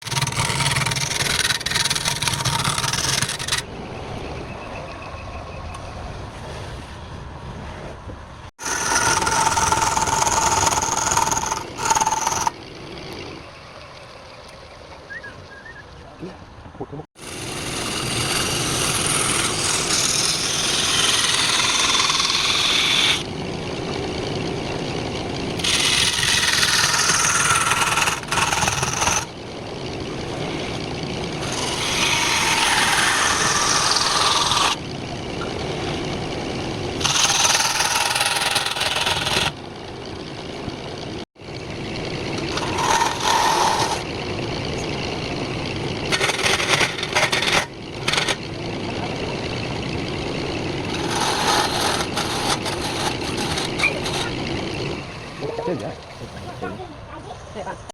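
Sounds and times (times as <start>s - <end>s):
gouge scraping spinning wood: 0.0s - 3.7s, 8.6s - 13.4s, 17.2s - 55.4s
wood lathe humming: 0.0s - 3.7s, 8.6s - 13.4s, 17.2s - 55.4s.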